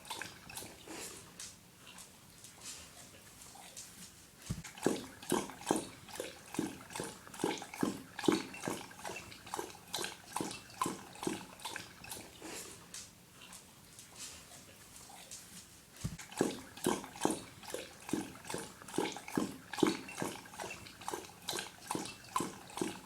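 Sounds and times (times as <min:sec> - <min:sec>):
dog lapping water: 0:00.0 - 0:23.0.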